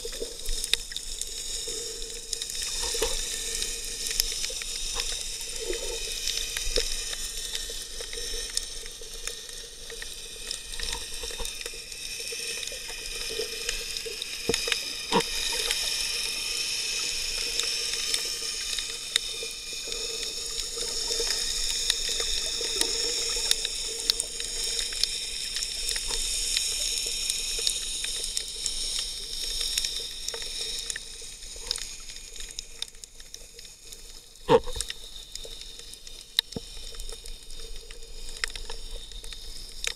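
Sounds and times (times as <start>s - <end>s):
crackles and clicks: 0.0s - 39.9s
faint steady hum: 0.0s - 39.9s
underwater hiss: 0.0s - 39.9s.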